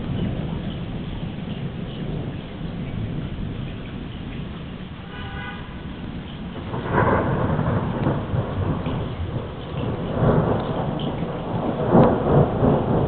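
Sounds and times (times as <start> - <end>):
rolling thunder: 0.0 - 5.1, 5.7 - 13.0.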